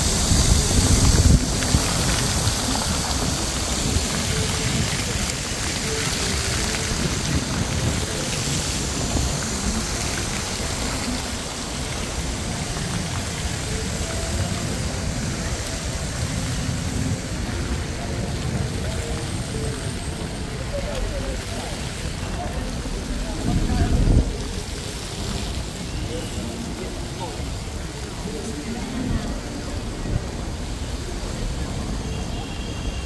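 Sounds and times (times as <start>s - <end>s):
traffic hiss and rumble: 0.0s - 33.0s.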